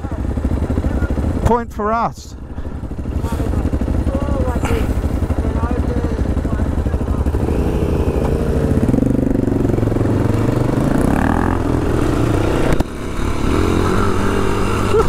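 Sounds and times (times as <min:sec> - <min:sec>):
motorcycle engine revving: 0:00.0 - 0:01.6, 0:02.4 - 0:15.0.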